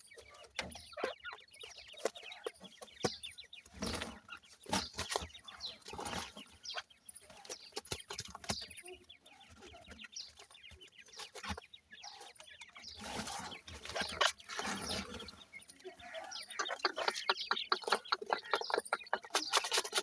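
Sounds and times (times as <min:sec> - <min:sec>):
chicks cheeping and clucking: 0:00.0 - 0:20.0.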